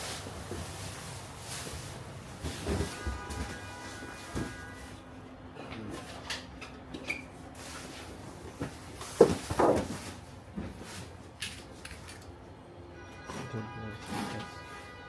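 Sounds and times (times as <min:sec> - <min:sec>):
busy indoor market noise: 0:00.0 - 0:15.0.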